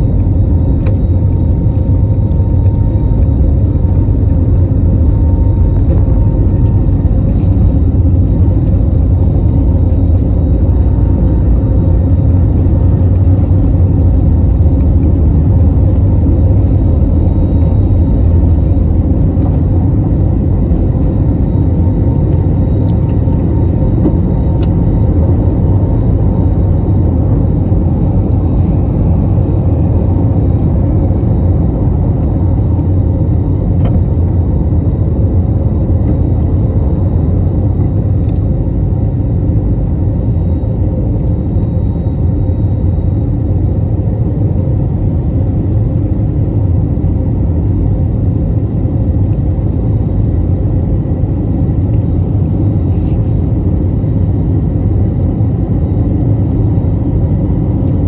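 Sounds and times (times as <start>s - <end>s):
faint steady whine: 0.0s - 58.0s
jet engines roaring: 0.0s - 58.0s.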